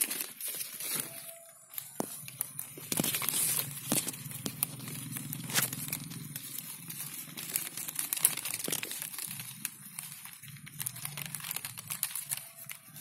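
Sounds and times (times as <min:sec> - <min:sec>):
leaves rustling: 0:00.0 - 0:13.0.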